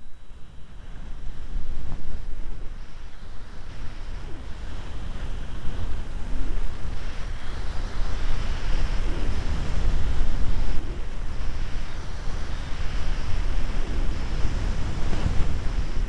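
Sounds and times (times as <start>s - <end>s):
wind buffeting microphone: 0.4s - 16.0s.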